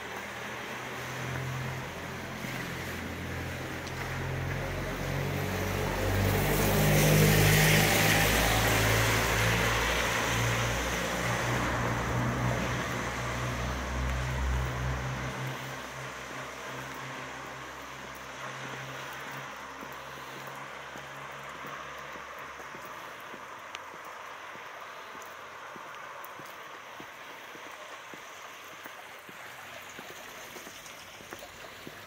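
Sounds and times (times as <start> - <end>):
low engine hum: 0.0 - 27.0
tyres hissing on wet road: 0.0 - 32.0.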